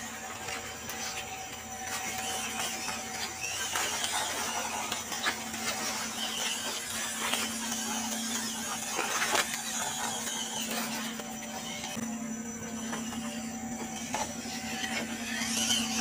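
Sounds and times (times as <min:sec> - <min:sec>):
toy truck electric motor whir: 0:00.0 - 0:16.0.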